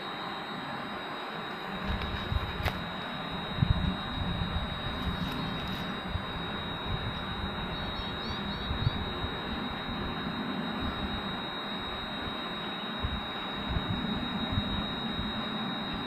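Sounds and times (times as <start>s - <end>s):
wind rumbling on microphone: 1.7s - 12.4s, 13.0s - 16.0s.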